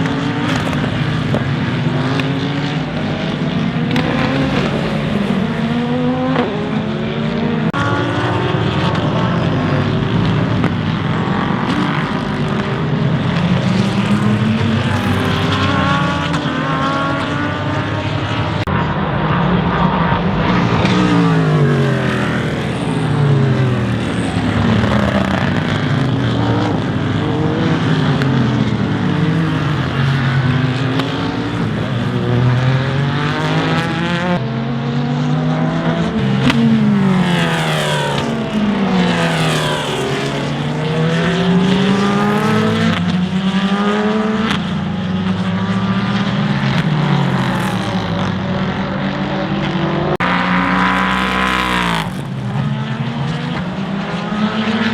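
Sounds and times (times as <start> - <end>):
race car engines passing: 0.0 - 54.9.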